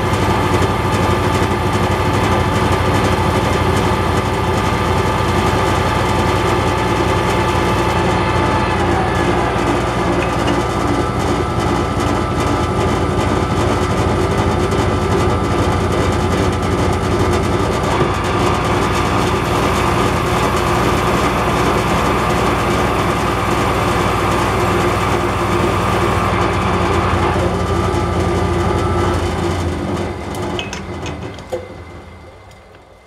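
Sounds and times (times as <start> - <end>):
lathe motor hum: 0.0 - 33.0.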